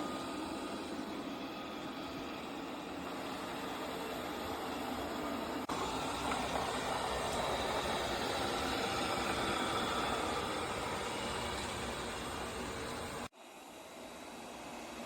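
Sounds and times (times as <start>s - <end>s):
robot vacuum drone: 0.0s - 15.0s.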